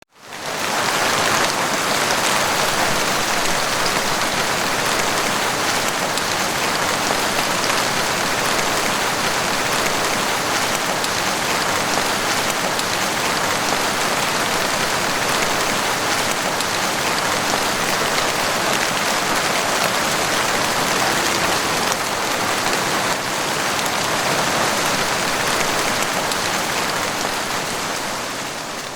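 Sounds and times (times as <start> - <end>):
heavy rain hiss: 0.4 - 28.9.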